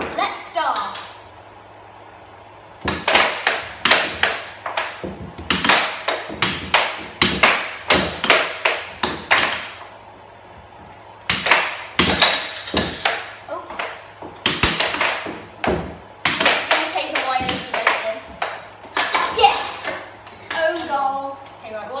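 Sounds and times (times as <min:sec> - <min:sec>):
air hockey puck clacking: 0:00.0 - 0:01.2, 0:02.8 - 0:09.9, 0:11.2 - 0:21.2.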